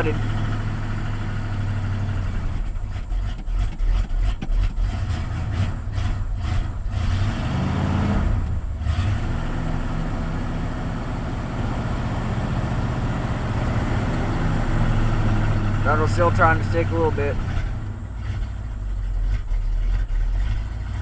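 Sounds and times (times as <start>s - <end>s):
truck engine running rough: 0.0s - 21.0s.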